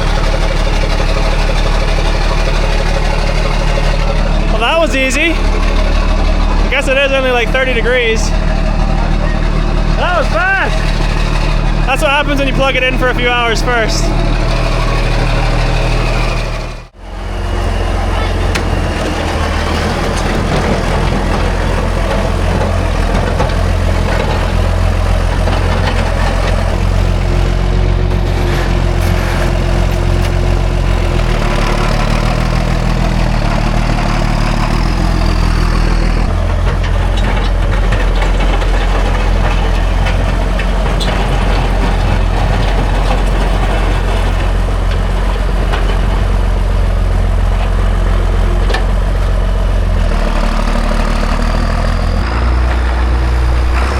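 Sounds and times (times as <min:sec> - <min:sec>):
tractor engine idling: 0:00.0 - 0:53.9.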